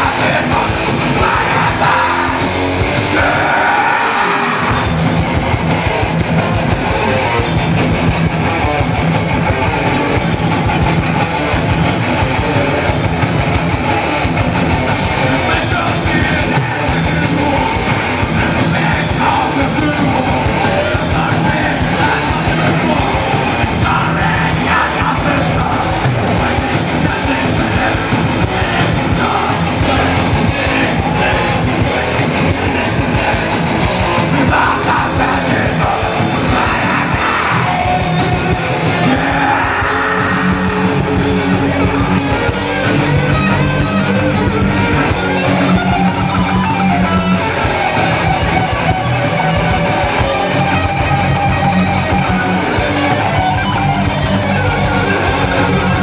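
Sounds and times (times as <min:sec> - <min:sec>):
bass guitar: 0:00.0 - 0:56.0
distorted electric guitars: 0:00.0 - 0:56.0
fast drums: 0:00.0 - 0:56.0.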